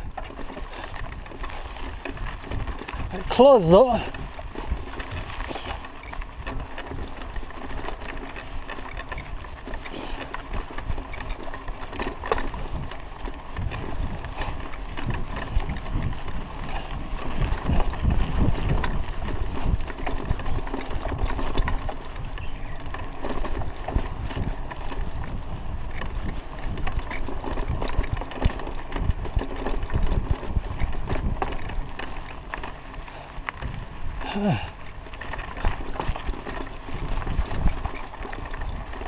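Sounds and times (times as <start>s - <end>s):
mountain bike rattling on dirt road: 0.0s - 39.0s.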